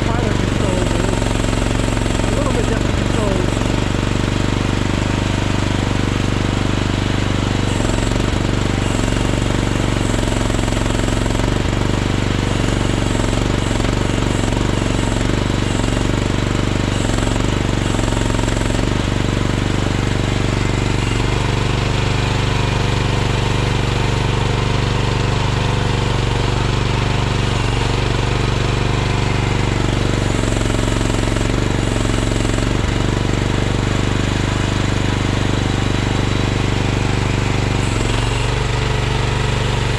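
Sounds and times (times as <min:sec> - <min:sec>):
small rattly engine running: 0:00.0 - 0:39.9.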